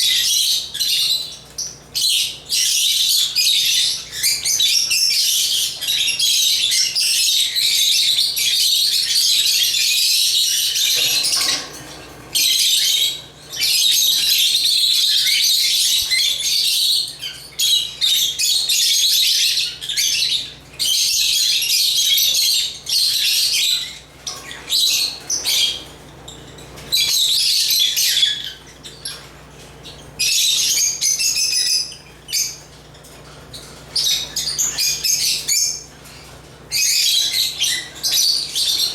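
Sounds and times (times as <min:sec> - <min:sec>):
lovebirds chirping and chattering: 0:00.0 - 0:38.9.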